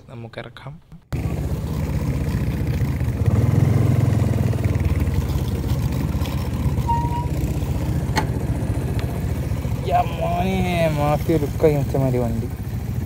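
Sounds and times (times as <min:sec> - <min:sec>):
motorcycle engine running at low speed: 0:01.1 - 0:13.0.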